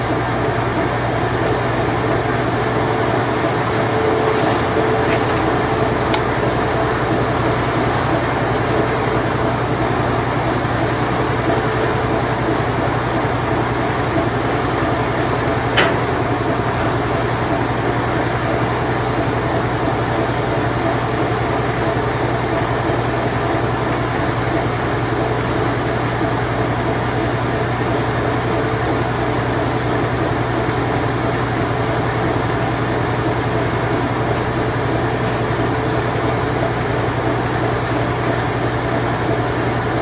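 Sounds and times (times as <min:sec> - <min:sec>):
washing machine running: 0:00.0 - 0:40.0.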